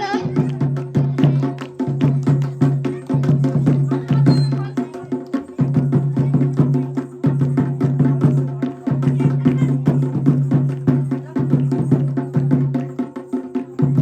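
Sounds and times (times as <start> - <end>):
quick percussion strokes: 0.0 - 14.0.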